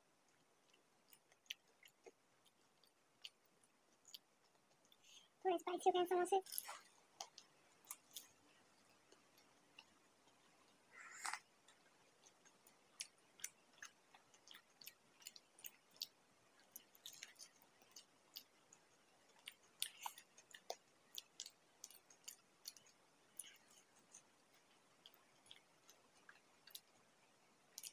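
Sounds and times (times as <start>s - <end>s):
chewing crunchy pastry: 0.2s - 5.8s, 6.4s - 27.9s.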